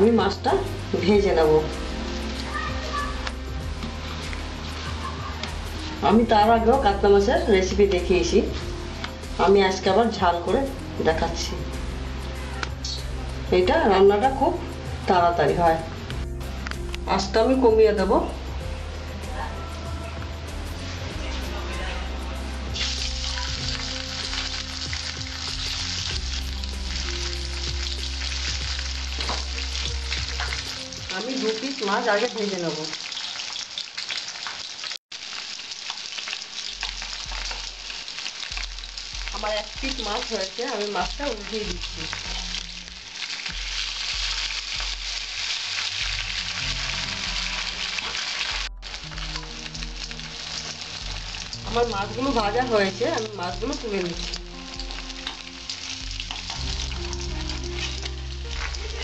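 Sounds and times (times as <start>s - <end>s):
fish sizzling in oil: 0.0s - 18.6s, 22.4s - 59.0s.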